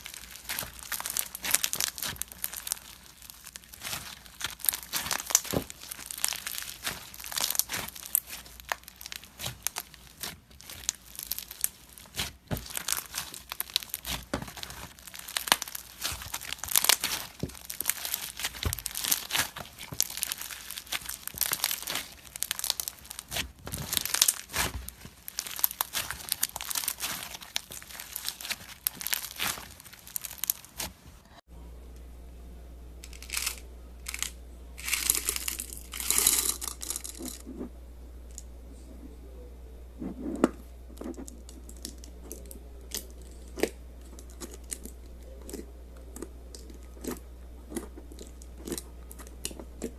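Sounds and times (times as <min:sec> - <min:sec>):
slime crackling and popping: 0:00.0 - 0:31.3, 0:33.0 - 0:37.4, 0:41.0 - 0:49.9.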